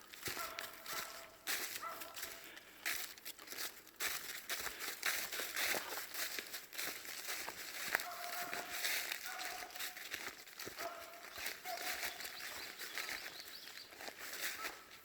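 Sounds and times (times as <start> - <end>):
footsteps on dry leaves: 0.0 - 15.0.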